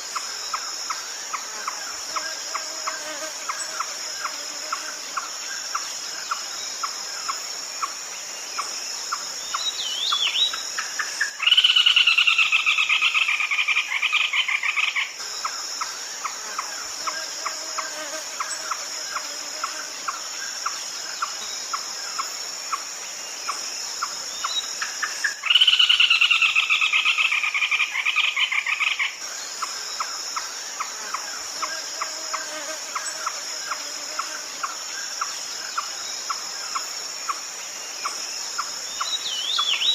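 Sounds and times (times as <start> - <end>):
high insect hum: 0.0 - 39.9.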